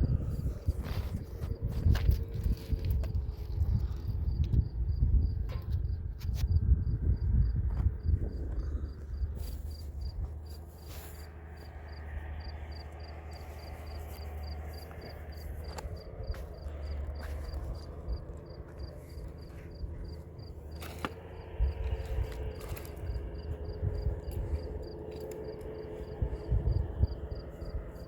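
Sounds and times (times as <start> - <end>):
high cricket-like chirps: 0.0 - 28.0
low rumble: 0.0 - 28.0.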